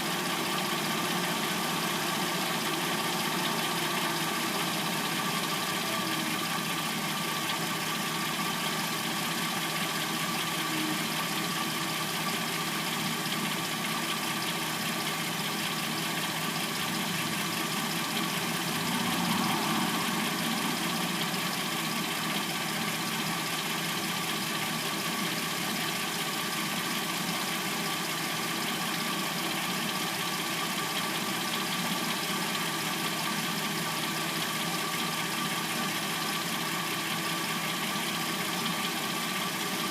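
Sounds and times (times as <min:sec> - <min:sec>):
car engine idling with clacking: 0:00.0 - 0:39.9.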